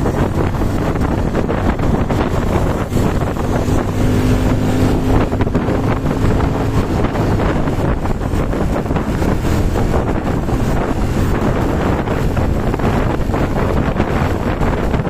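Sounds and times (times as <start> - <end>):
engine droning: 0.0 - 15.0
low hum: 0.0 - 15.0
wind buffeting microphone: 0.0 - 15.0.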